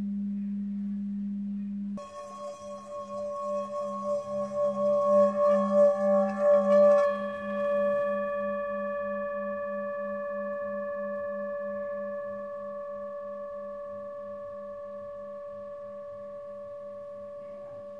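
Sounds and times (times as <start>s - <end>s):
singing bowl ringing: 2.0s - 17.9s.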